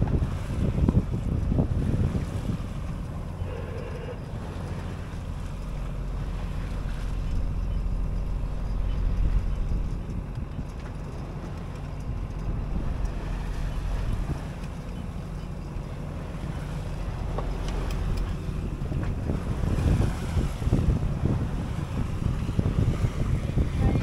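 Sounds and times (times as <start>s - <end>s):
low steady drone: 0.0s - 24.0s
water washing along hull: 0.0s - 24.0s
wind buffeting microphone: 0.0s - 24.0s.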